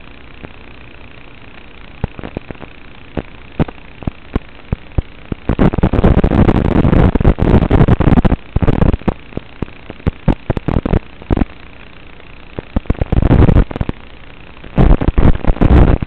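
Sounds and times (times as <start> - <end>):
dense static crackle: 0.0 - 16.0
radio static hiss: 0.0 - 16.0.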